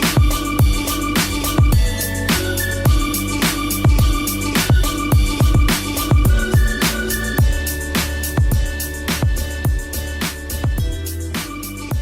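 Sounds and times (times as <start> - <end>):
electronic beat with bass: 0.0 - 12.0.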